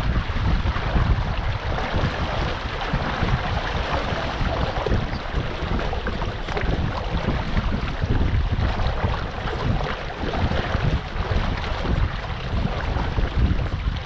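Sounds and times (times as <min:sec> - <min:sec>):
water rushing along a hull: 0:00.0 - 0:14.0
wind buffeting microphone: 0:00.0 - 0:14.0.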